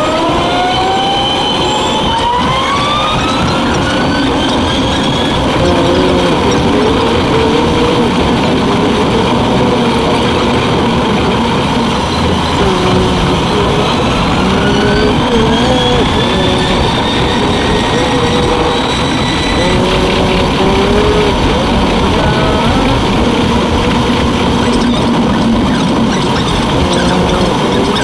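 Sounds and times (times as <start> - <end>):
motor whine rising in pitch: 0.0 - 28.0
train running noise: 0.0 - 28.0.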